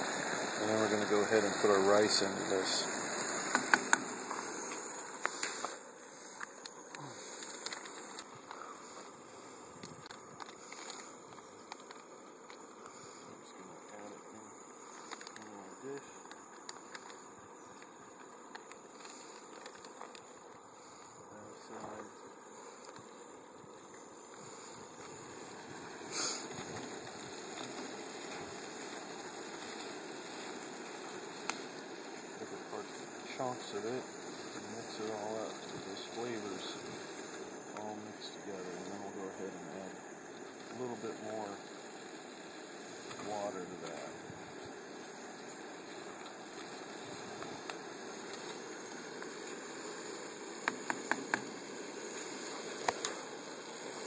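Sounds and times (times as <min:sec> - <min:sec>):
camp stove hissing: 0:00.0 - 0:54.0
food sizzling in a pan: 0:00.0 - 0:54.0.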